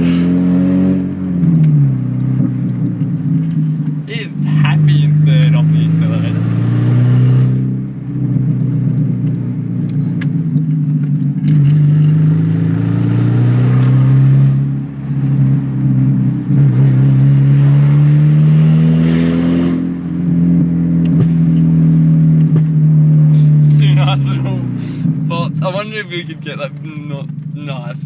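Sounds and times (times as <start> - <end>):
exhaust clicks and crackles: 0.0 - 18.5, 19.7 - 28.0
loud car engine revving: 0.0 - 28.0.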